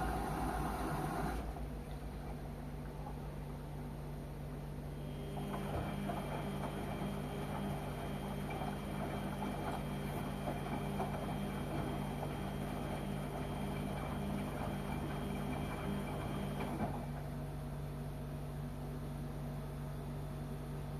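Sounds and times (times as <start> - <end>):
motor whine and turning drum: 0.0 - 18.0
washing machine hum: 0.0 - 20.9.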